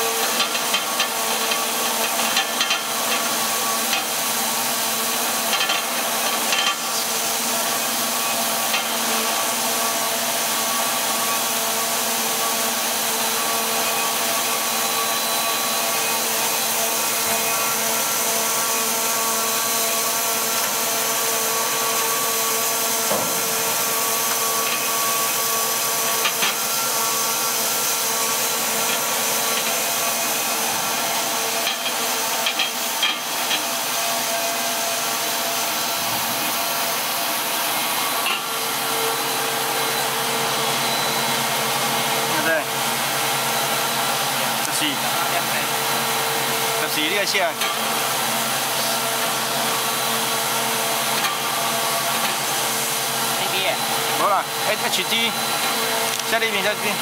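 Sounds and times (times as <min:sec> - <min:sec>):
recycling machine running: 0:00.0 - 0:57.0.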